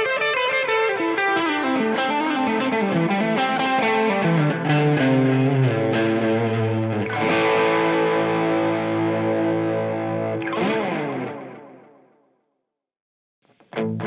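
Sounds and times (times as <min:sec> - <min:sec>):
electric guitar with tape echo: 0:00.0 - 0:12.4, 0:13.4 - 0:14.0.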